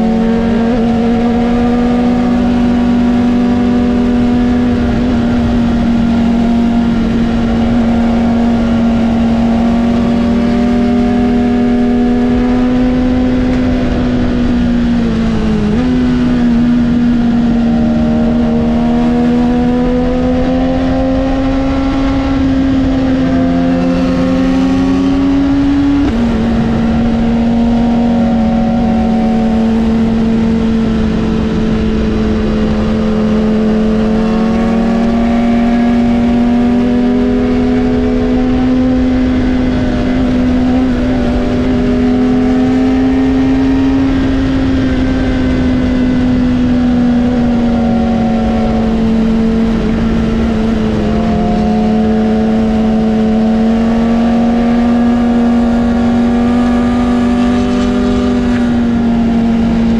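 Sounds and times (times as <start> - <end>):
motorcycle engine at high revs: 0.0 - 59.9
wind rush: 0.0 - 59.9.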